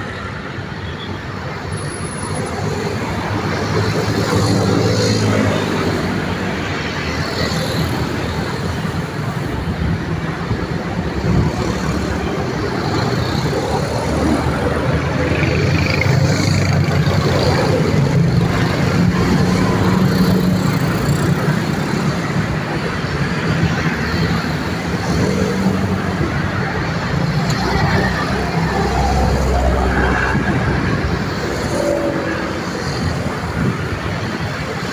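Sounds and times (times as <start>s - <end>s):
road traffic passing: 0.0s - 34.9s.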